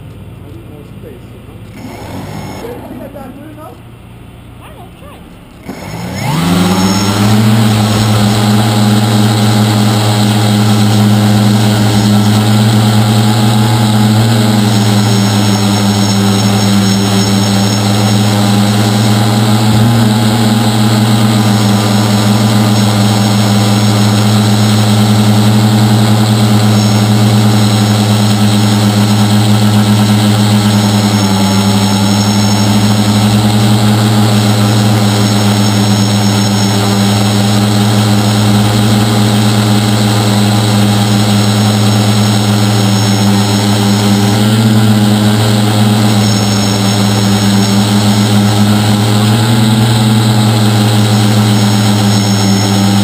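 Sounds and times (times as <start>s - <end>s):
drone motors buzzing: 0.0s - 53.0s.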